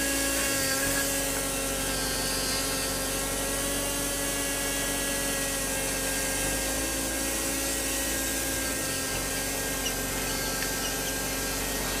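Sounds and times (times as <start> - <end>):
small electric motor whine: 0.0 - 12.0.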